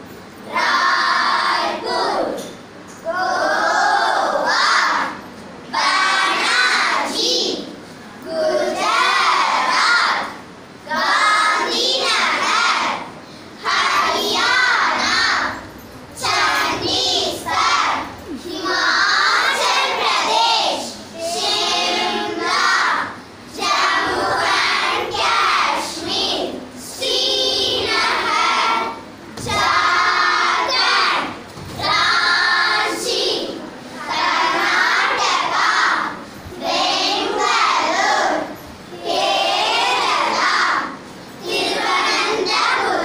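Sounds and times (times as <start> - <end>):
girls chanting in unison: 0.5 - 2.4, 3.0 - 15.6, 16.2 - 43.0.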